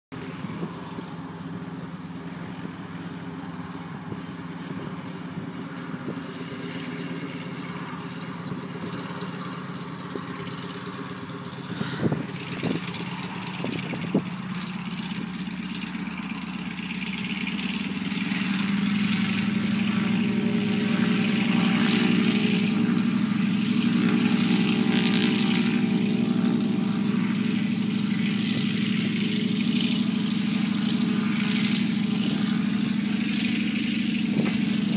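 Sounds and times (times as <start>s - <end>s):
radial aircraft engine running: 0.1s - 34.9s.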